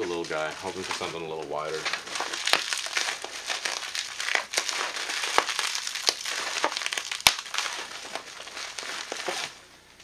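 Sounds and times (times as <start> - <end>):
bubble wrap crinkling: 0.0 - 10.0
bubble wrap sharp snap: 1.7 - 10.0.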